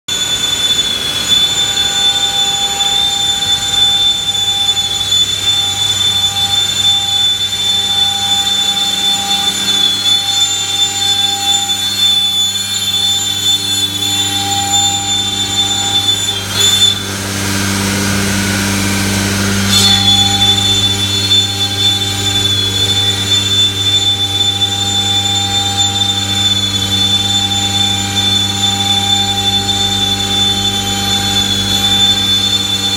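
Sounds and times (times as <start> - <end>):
low hum: 0.1 - 32.9
router spindle whine: 0.1 - 32.9.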